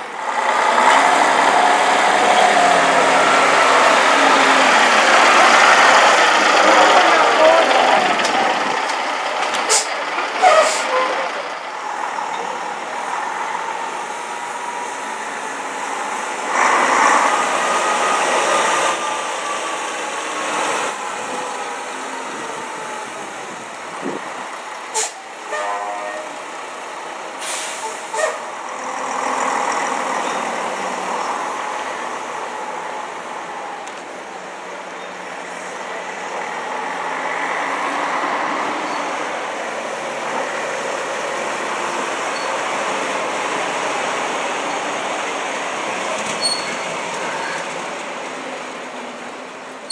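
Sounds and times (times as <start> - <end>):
coach engines accelerating past: 0.0 - 49.9.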